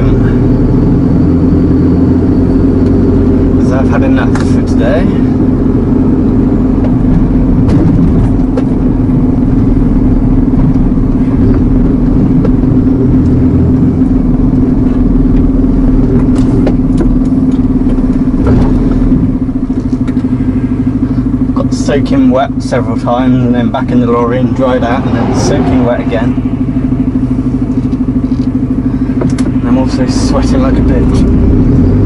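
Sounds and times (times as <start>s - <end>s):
lorry engine and road noise: 0.0s - 32.0s.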